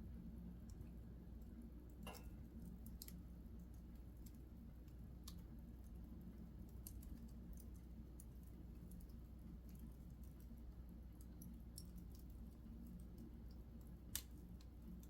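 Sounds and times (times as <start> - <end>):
fire crackling and popping: 0.0 - 15.0
steady low hum: 0.0 - 15.0.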